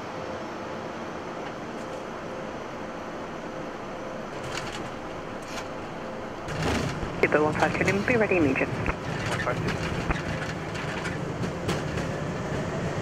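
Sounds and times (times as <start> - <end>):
airplane cockpit noise on landing: 0.0 - 13.0.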